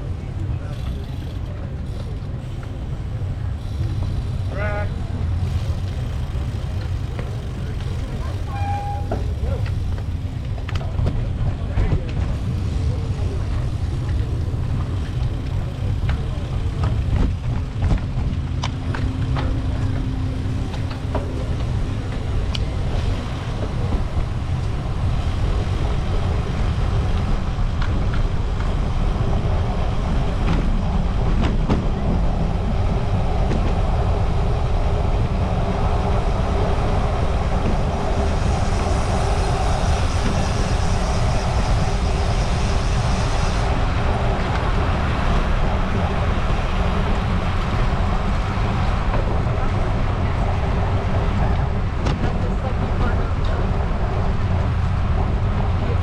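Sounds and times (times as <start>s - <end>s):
bicycle road noise: 0.0s - 56.0s
wind rushing over microphone: 3.0s - 56.0s.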